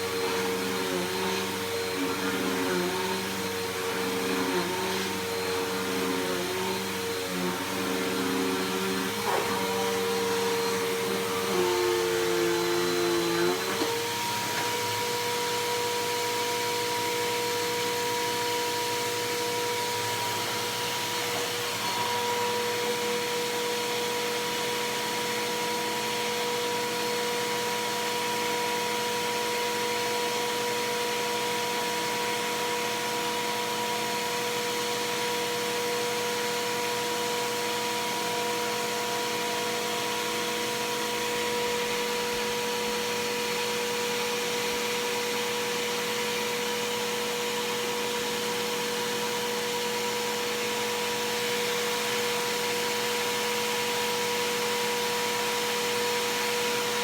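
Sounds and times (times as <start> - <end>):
upright vacuum running: 0.0 - 57.0.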